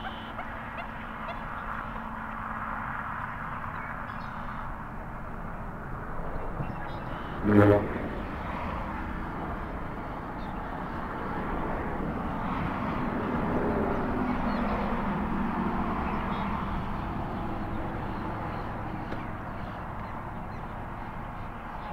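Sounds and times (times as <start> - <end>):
passing vehicle rush: 0.0 - 21.9.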